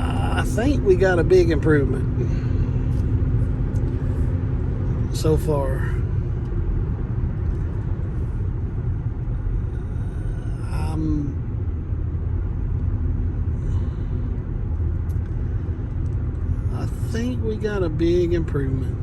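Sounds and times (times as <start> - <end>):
road and wind noise in car cabin: 0.0 - 19.0
tires rumbling on pavement: 0.0 - 19.0.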